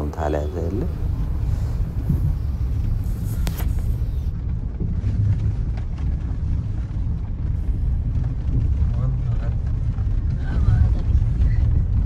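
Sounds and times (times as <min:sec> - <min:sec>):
tyre road rumble in cabin: 0:00.0 - 0:12.0.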